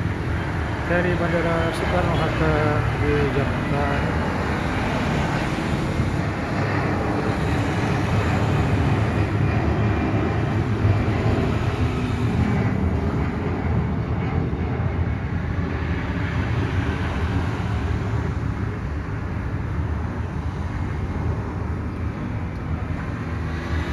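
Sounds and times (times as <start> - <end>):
jet engines at takeoff power: 0.0 - 23.9.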